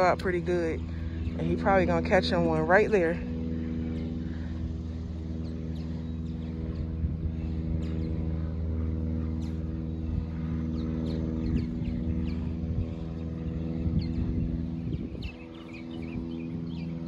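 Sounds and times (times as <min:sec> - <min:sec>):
birds chirping: 0:00.0 - 0:17.0
steady engine drone: 0:00.0 - 0:17.0.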